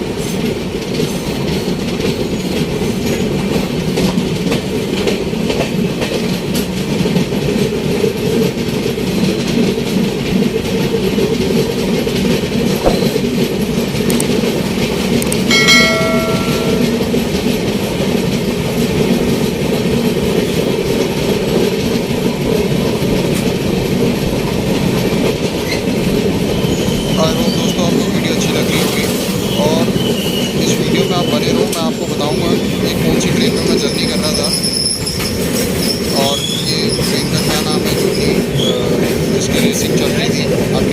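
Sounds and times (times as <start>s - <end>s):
clickety-clack over rail joints: 0.0s - 40.9s
train wheels rumbling on rails: 0.0s - 40.9s.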